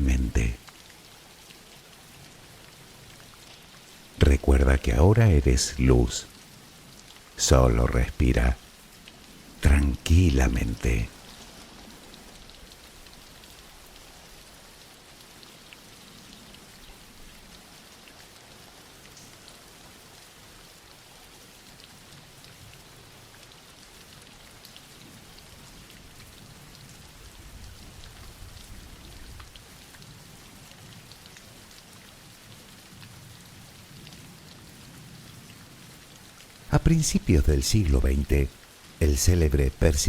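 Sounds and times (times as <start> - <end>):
soft rain falling: 0.0 - 40.0.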